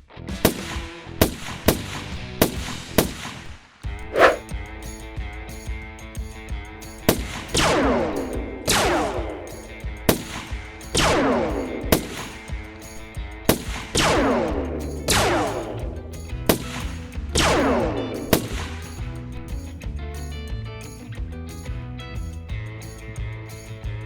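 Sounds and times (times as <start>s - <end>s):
background music with bass line: 0.0s - 24.0s.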